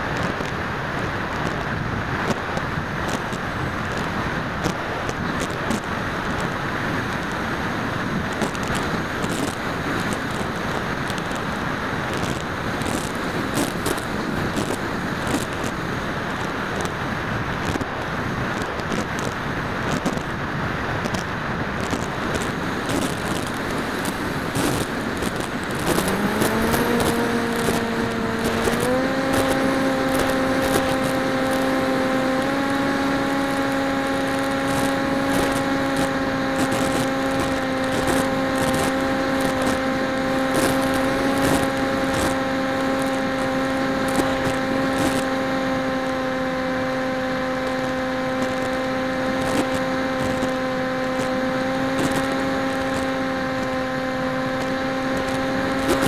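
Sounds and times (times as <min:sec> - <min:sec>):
rush of air on microphone: 0:00.0 - 0:45.3
electric motor and propeller whine: 0:00.0 - 0:56.0.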